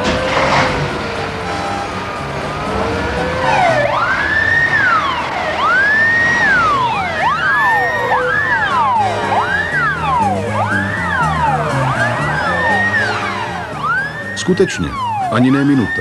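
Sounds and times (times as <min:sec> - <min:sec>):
fire engine sirens wailing: 0:00.0 - 0:16.0.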